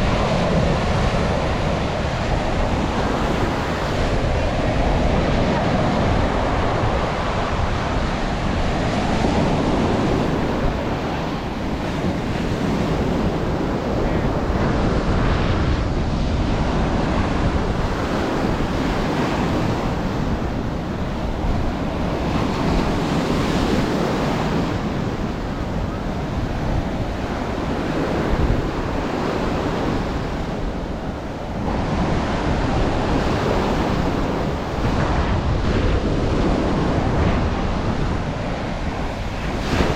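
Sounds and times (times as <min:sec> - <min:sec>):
ocean waves breaking: 0:00.0 - 0:39.9
wind buffeting microphone: 0:00.0 - 0:39.9.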